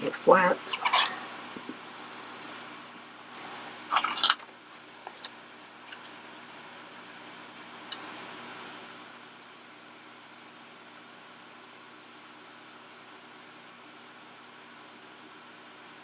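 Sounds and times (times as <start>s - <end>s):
fan hissing: 0.0s - 13.6s.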